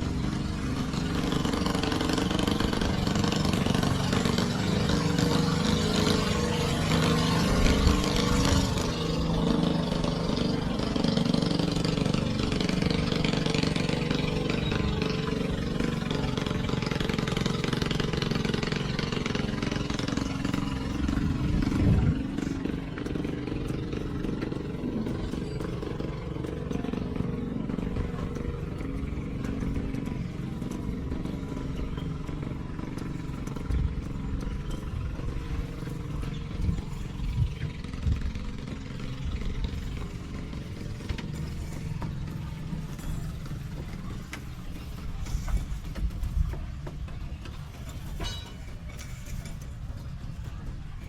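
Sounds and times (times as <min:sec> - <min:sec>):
ferry engine drone: 0:00.0 - 0:51.0.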